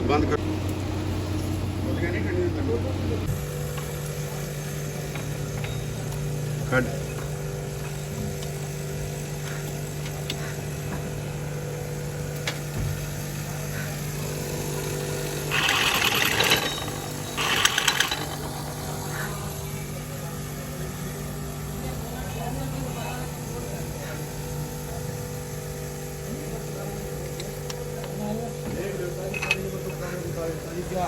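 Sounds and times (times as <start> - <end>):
engine idling: 0.0 - 31.0
loud hissing rattling bursts: 0.4 - 31.0.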